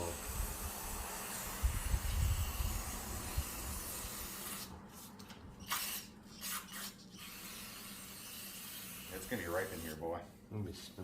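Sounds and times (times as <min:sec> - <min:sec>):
aerosol can spraying: 0:00.0 - 0:10.0.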